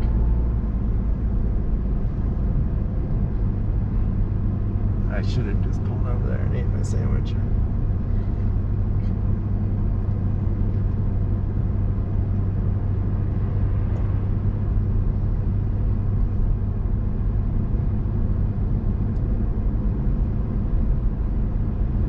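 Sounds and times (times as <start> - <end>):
car engine and road drone: 0.0 - 22.0.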